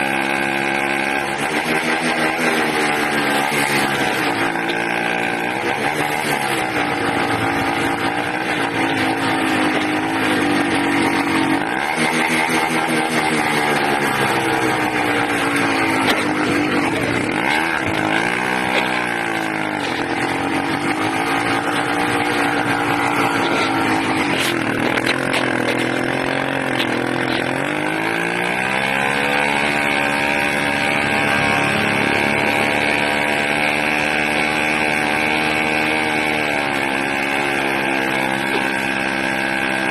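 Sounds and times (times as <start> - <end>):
small engine running unevenly: 0.0 - 39.9.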